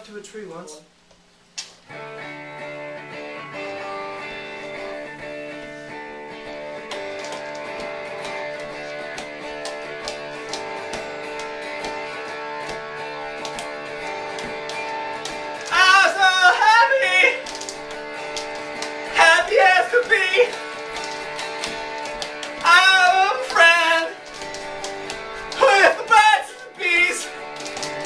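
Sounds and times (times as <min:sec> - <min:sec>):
guitar held chords: 0:01.8 - 0:28.0
plucked guitar notes: 0:01.9 - 0:28.0.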